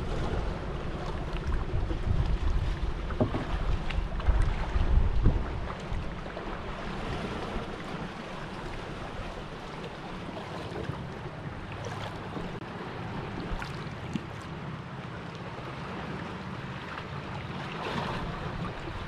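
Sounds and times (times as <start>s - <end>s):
water lapping against kayak hull: 0.0s - 19.0s
wind rumbling on microphone: 0.0s - 19.0s.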